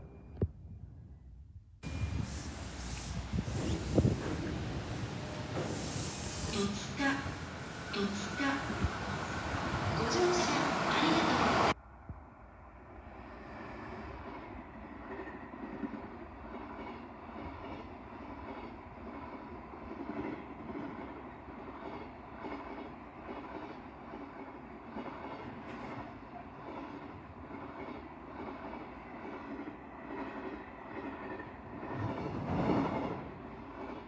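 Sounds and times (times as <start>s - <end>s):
electric train rumble and hum: 1.8s - 34.0s.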